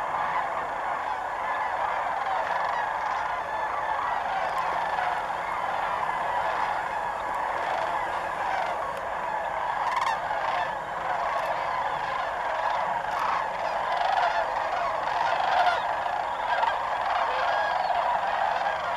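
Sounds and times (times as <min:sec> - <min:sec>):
flock of cranes calling: 0:00.0 - 0:18.9.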